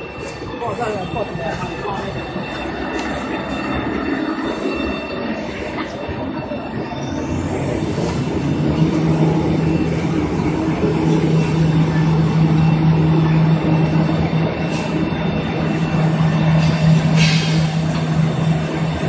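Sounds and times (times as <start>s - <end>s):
production line machinery running: 0.0s - 19.0s
rising whine: 0.0s - 19.0s
strong steady hum: 0.0s - 19.0s.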